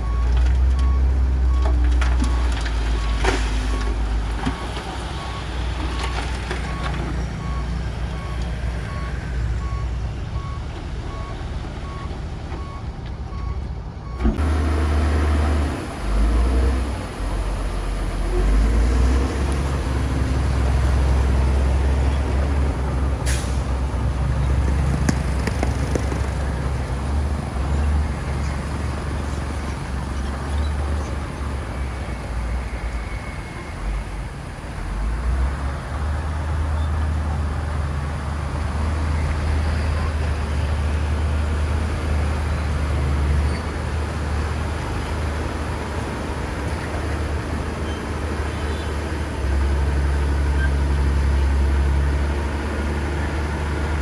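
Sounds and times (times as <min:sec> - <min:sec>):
bulldozer engine under load: 0:00.0 - 0:54.0.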